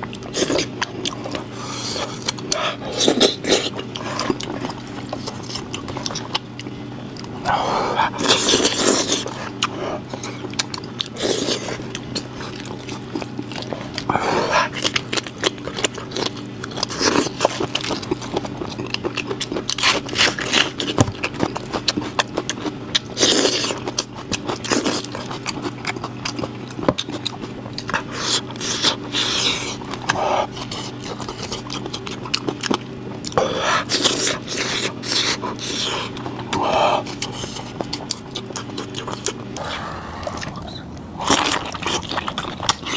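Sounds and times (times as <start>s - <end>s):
person chewing and tearing meat: 0.0s - 42.9s
steady low hum: 0.0s - 42.9s.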